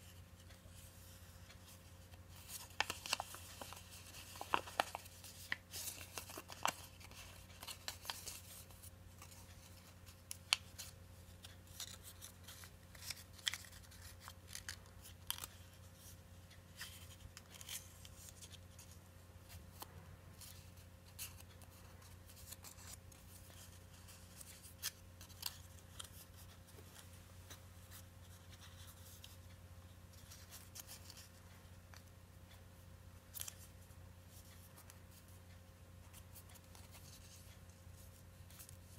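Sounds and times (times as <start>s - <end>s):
paper folding and crinkling: 0.0s - 32.1s, 33.3s - 38.9s
faint steady hum: 0.0s - 38.9s.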